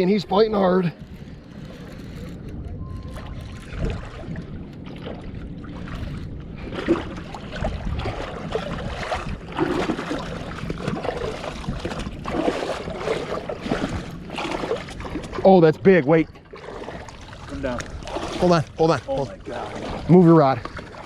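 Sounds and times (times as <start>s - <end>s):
water splashing and lapping: 0.0s - 21.0s
wind rumble on microphone: 0.0s - 21.0s.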